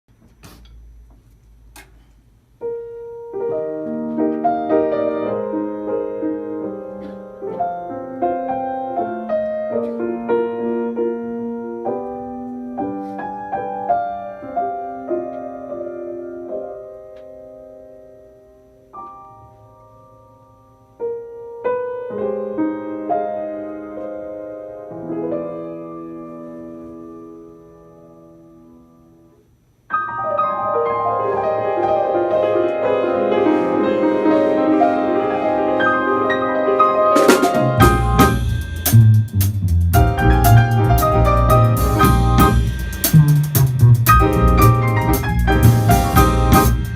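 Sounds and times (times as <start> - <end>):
solo piano: 2.4 - 46.9.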